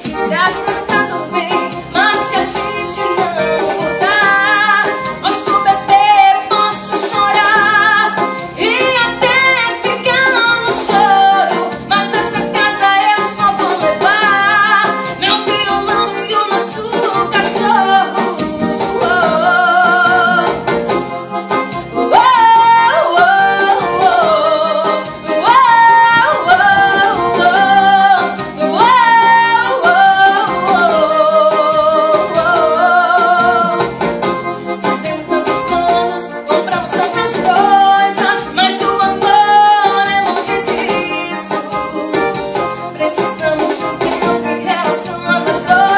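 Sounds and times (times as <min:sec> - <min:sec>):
woman singing a ballad: 0:00.0 - 0:20.7, 0:21.9 - 0:34.0, 0:34.8 - 0:45.9
electronic keyboard: 0:00.0 - 0:45.9.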